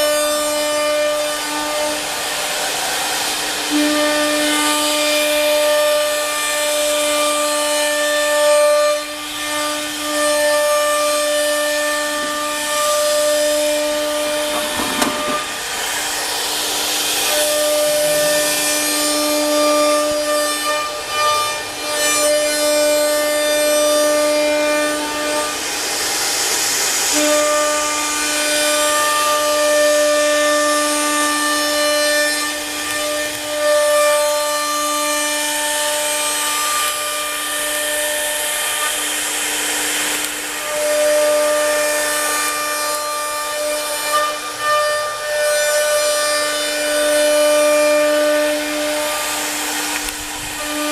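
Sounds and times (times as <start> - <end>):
rasping cutting noise: 0.0 - 50.9
router spindle whine: 0.0 - 50.9.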